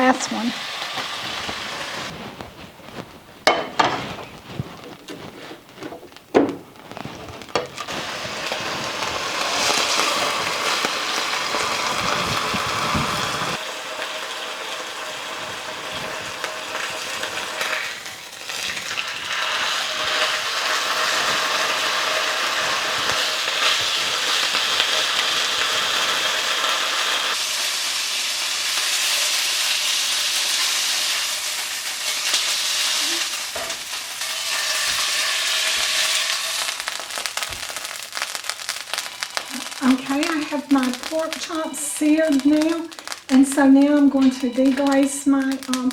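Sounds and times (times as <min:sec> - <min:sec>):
meat sizzling in oil: 0:00.0 - 0:45.9.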